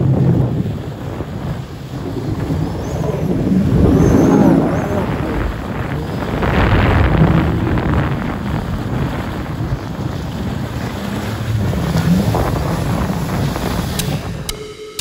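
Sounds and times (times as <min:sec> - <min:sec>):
wind buffeting microphone: 0:00.0 - 0:14.5
jet ski engine rumble: 0:00.0 - 0:15.0
rushing water: 0:00.0 - 0:15.0.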